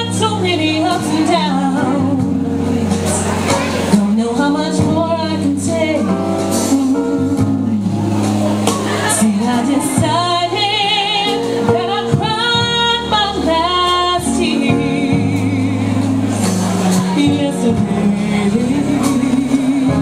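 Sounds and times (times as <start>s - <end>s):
instrumental accompaniment: 0.0s - 20.0s
woman singing into a microphone: 0.0s - 20.0s.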